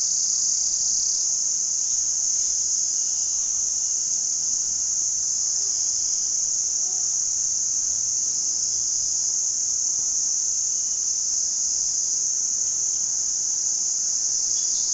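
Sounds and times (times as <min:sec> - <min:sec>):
insects buzzing: 0:00.0 - 0:14.9.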